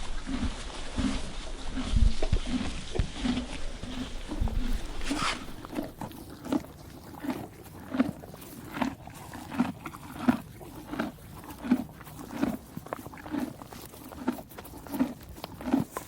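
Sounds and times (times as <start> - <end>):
horse chewing hay: 0.0 - 16.0.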